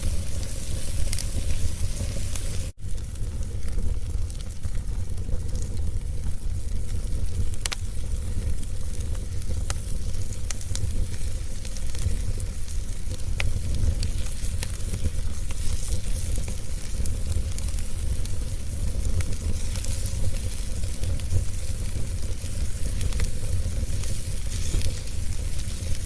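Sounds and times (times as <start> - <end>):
fire popping: 0.0 - 26.0
wood fire crackling: 0.0 - 26.0.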